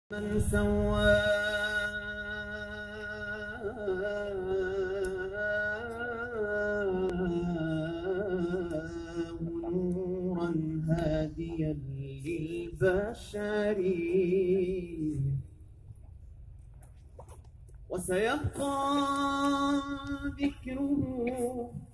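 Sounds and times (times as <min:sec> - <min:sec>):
man singing through loudspeakers: 0:00.1 - 0:15.5, 0:17.9 - 0:21.9.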